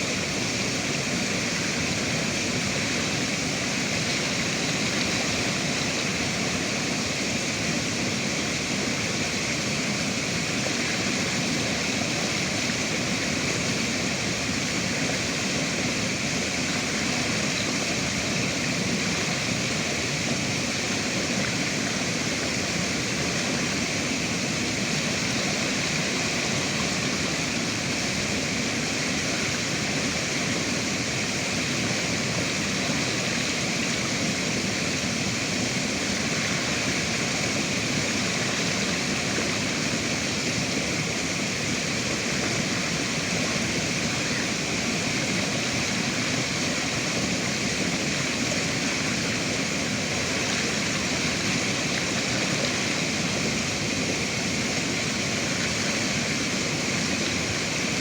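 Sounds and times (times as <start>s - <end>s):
river water rushing and babbling: 0.0s - 58.0s.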